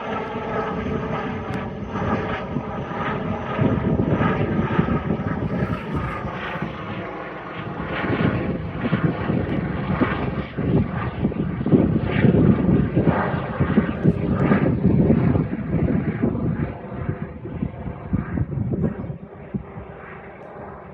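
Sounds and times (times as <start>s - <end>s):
helicopter rotor and engine: 0.0s - 20.9s.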